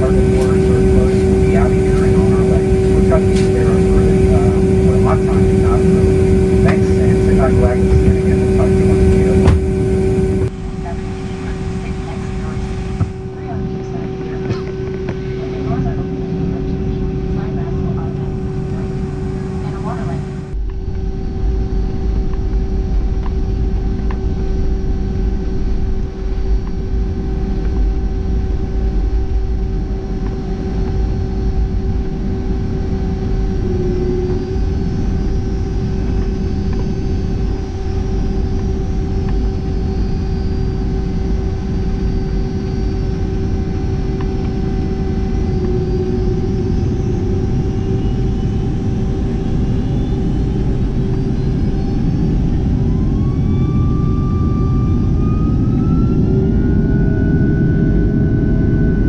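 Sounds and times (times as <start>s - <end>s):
high whine rising in pitch: 0.0s - 59.0s
jet engine rumble in cabin: 0.0s - 59.0s.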